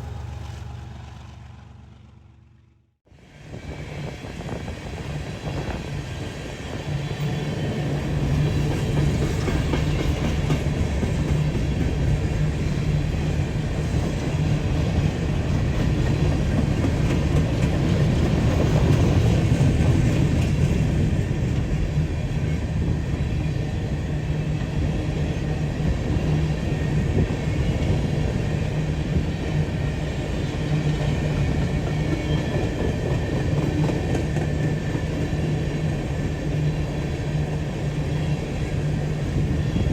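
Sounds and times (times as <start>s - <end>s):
diesel locomotive engine hum: 0.0s - 39.9s
rail cars rattling: 0.0s - 39.9s.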